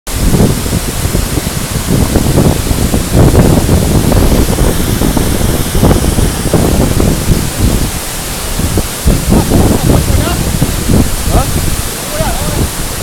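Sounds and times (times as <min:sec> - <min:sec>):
waterfall rushing: 0:00.1 - 0:13.0
wind buffeting the microphone: 0:00.1 - 0:13.0.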